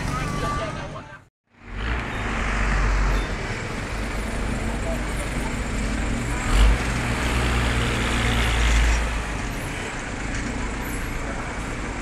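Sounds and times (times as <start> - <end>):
bus engine rumble: 0.0 - 12.0
street traffic noise: 0.0 - 12.0.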